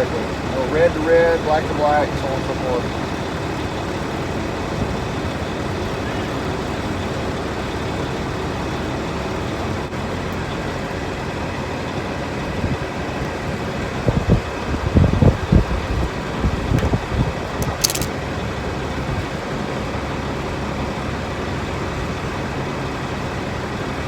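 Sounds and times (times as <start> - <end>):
vehicle rumble with road noise: 0.0 - 24.0.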